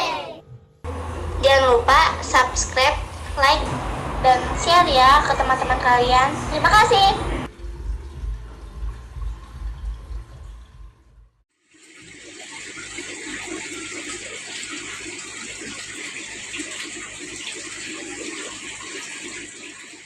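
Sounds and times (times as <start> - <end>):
water running: 0.9 - 20.0.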